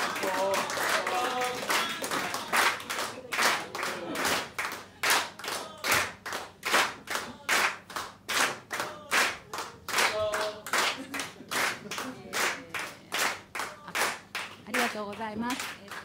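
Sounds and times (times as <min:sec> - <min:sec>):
audience clapping in unison: 0:00.0 - 0:16.0.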